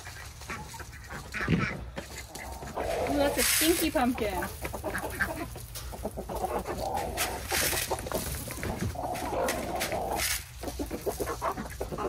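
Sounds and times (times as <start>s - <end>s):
chickens clucking: 0.0s - 12.0s
treats rustling on ground: 0.0s - 12.0s.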